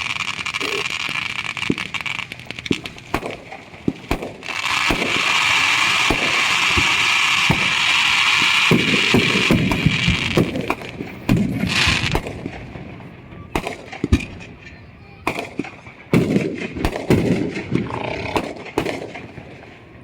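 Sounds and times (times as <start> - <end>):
fireworks hissing crackle: 0.0 - 20.0
fireworks popping and banging: 0.0 - 20.0.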